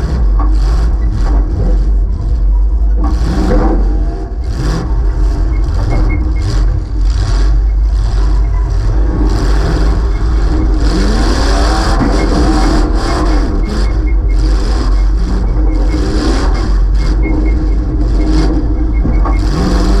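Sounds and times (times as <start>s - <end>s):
loud car engine revving: 0.0s - 20.0s.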